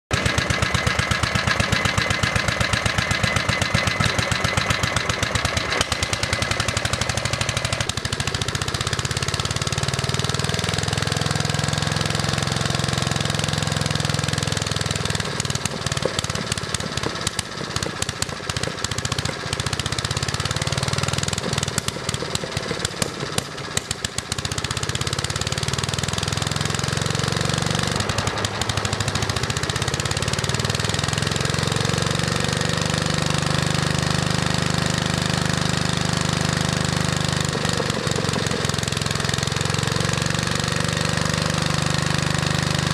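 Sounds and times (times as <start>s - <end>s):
combustion engine running: 0.1s - 42.9s.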